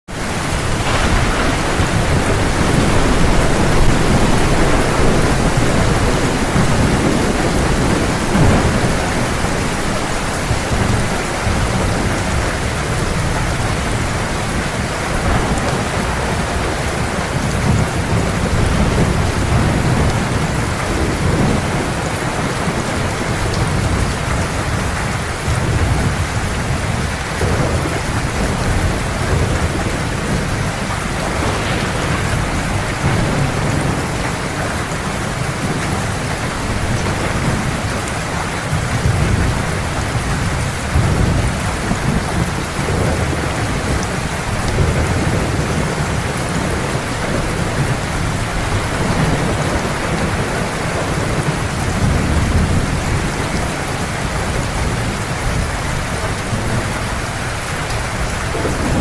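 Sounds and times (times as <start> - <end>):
heavy rain falling: 0.0 - 59.0
low rolling thunder: 0.1 - 59.0.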